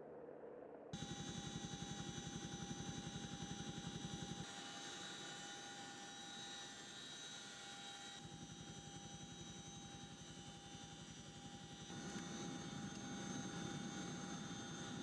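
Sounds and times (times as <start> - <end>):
helicopter engine whine: 1.0 - 15.0
helicopter rotor beat: 1.0 - 15.0.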